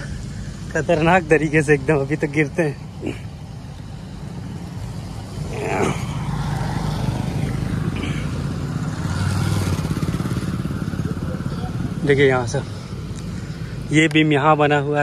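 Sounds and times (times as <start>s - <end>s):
motorcycles passing on dirt road: 0.0s - 15.0s.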